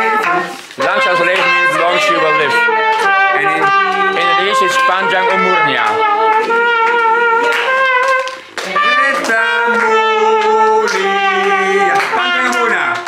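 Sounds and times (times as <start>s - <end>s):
trumpet playing slow tune: 0.0s - 13.0s.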